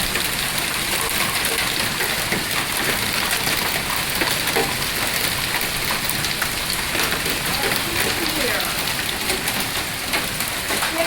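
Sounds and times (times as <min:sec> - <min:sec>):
heavy rain and hail: 0:00.0 - 0:11.0.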